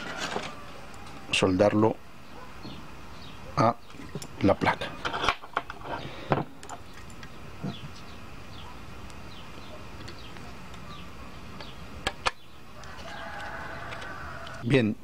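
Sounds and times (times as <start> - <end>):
small birds chirping: 1.7 - 5.0, 5.9 - 14.7.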